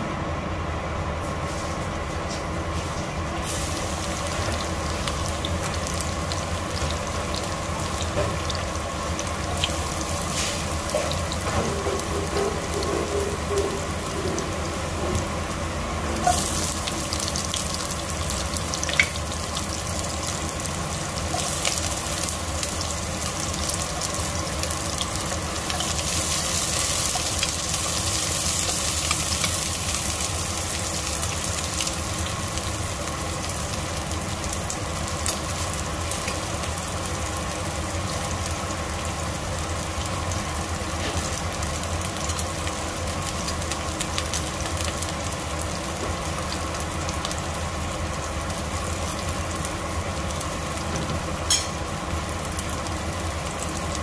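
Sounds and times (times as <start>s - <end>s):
onion sizzling in hot oil: 1.4s - 54.0s.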